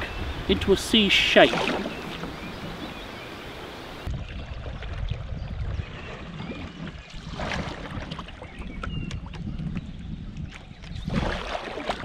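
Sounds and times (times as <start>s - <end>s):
wind rumble on microphone: 0.0s - 1.0s, 1.6s - 12.0s
paddle splashing water: 0.0s - 12.0s.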